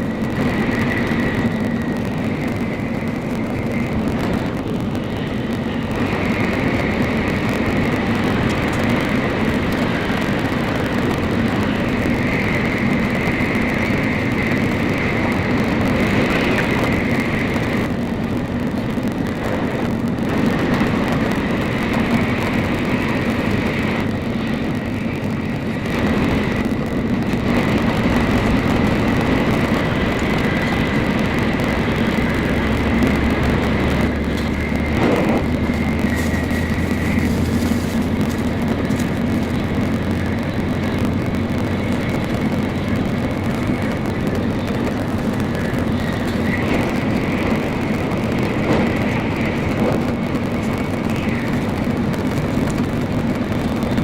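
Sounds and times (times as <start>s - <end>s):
high-pitched whine: 0.0s - 54.0s
train cabin rumble: 0.0s - 54.0s.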